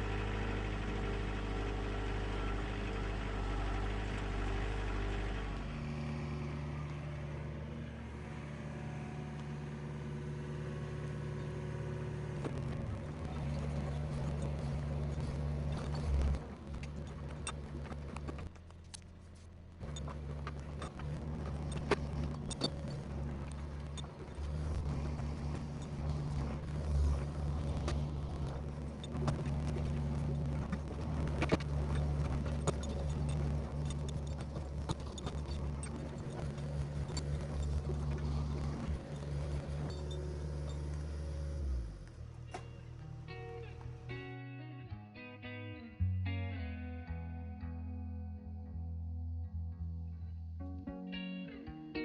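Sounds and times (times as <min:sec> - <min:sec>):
engine humming: 0:00.0 - 0:52.0.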